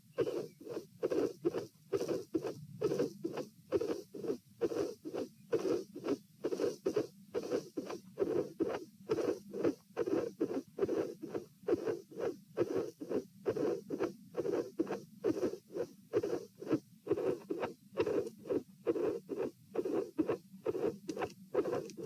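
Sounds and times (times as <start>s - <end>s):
heartbeat: 0.2s - 22.0s.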